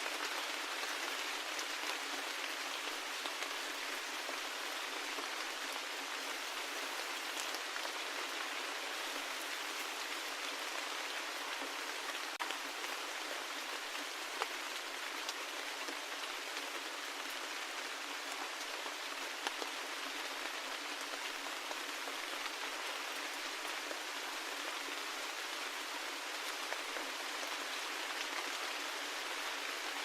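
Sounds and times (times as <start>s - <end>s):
steady rain: 0.0s - 30.0s.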